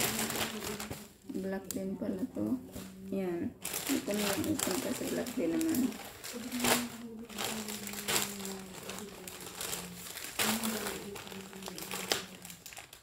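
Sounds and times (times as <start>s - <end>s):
plastic packaging crinkling: 0.0s - 1.9s, 2.6s - 13.0s.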